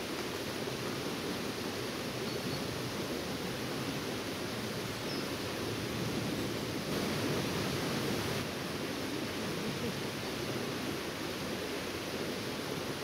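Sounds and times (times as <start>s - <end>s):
river rushing over rapids: 0.0s - 13.0s.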